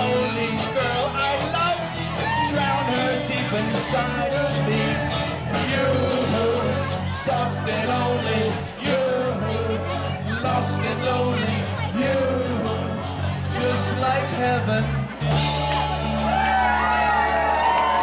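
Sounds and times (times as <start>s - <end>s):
person singing: 0.0s - 16.3s
bass slide: 0.0s - 18.0s
rock band playing: 0.0s - 18.0s.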